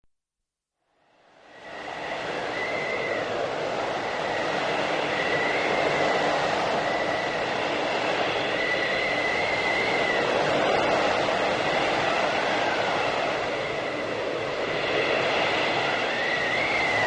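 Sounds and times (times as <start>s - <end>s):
blizzard wind rushing: 1.0s - 17.0s
high wind whistle: 1.0s - 17.0s.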